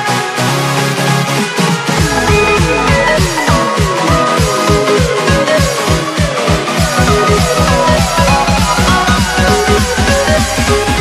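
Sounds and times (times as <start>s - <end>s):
electronic music with fast beat: 1.8s - 11.0s.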